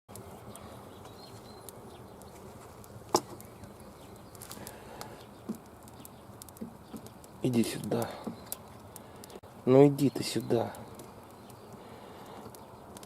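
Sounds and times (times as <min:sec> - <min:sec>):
campfire crackling and popping: 0:00.1 - 0:13.0.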